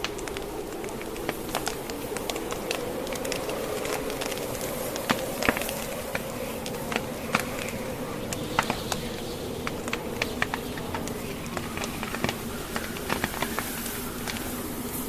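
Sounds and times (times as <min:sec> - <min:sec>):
burning logs popping: 0:00.0 - 0:15.0
wind hissing: 0:00.0 - 0:15.0
wood fire crackling: 0:00.0 - 0:15.0.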